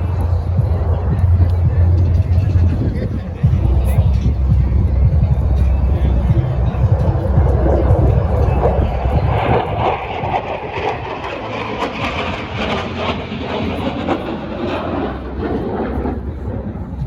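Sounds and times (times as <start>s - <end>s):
jet engine crackling rumble: 0.0s - 17.0s.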